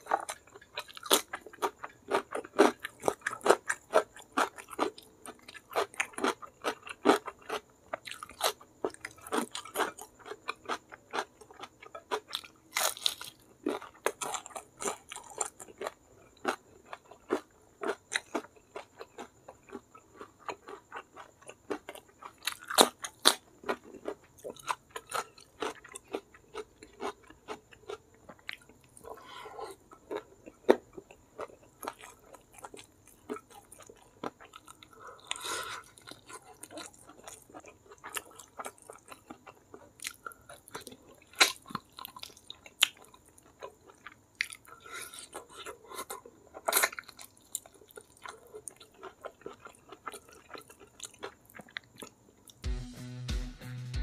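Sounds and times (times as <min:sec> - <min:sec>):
loud crunchy bites: 0:00.0 - 0:52.2.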